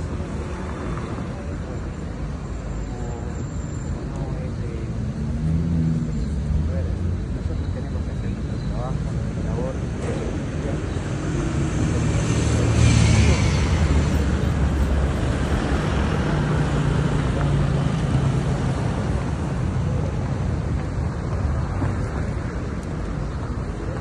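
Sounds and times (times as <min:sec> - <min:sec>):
street noise: 0:00.0 - 0:24.0.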